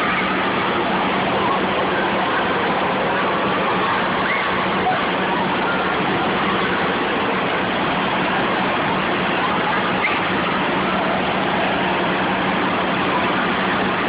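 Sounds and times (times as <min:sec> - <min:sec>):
faint distant voices: 0:00.0 - 0:14.0
steady low hum: 0:00.0 - 0:14.0
wave pool water washing: 0:00.0 - 0:14.0.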